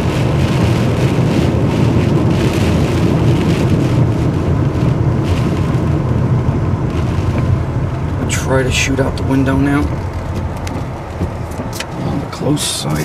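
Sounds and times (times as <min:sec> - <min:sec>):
rain and wind hitting a vehicle: 0:00.0 - 0:13.0
windshield wipers sweeping: 0:00.0 - 0:13.0.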